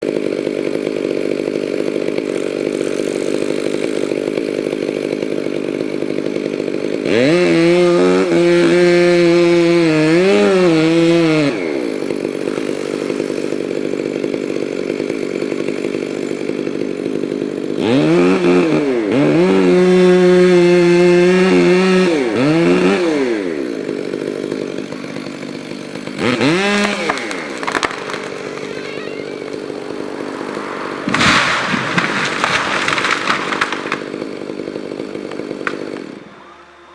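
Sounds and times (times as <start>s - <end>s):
chainsaw revving: 0.0s - 36.9s.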